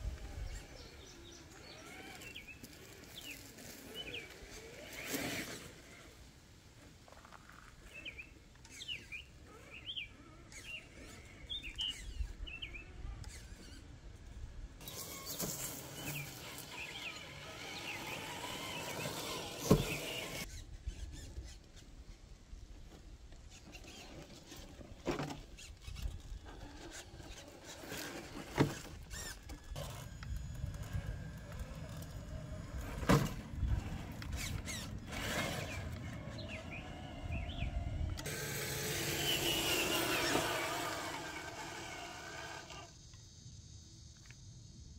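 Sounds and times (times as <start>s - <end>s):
electric motor and gears whining: 0.0s - 6.2s, 7.2s - 21.9s, 22.8s - 43.3s.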